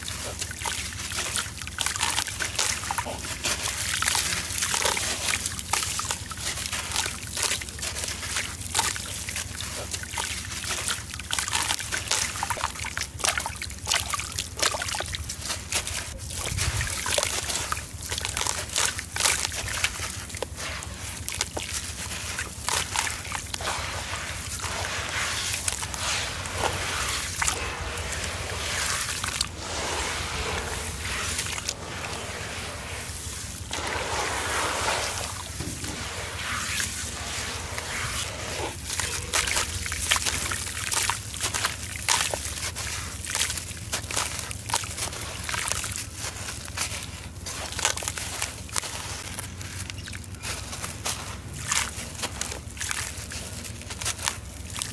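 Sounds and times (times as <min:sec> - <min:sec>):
gritty crumbling crackles: 0:00.0 - 0:54.9
water sloshing and trickling: 0:00.0 - 0:54.9.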